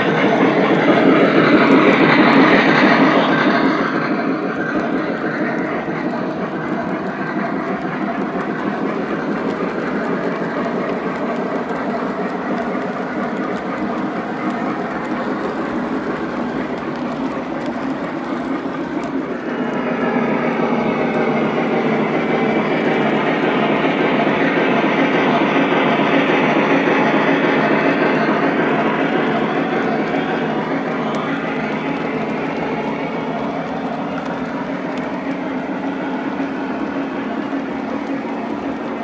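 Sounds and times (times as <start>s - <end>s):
model train wheels rumbling: 0.0s - 39.0s.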